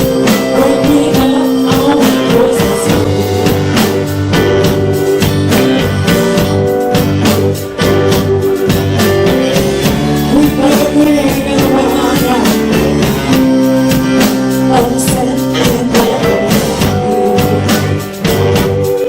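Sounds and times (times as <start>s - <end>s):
band playing blues rock: 0.0s - 19.0s.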